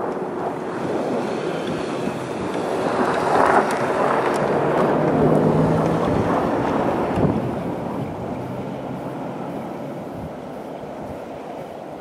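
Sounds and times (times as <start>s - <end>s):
diesel locomotive engine: 0.0s - 12.0s
wind noise on microphone: 0.0s - 12.0s.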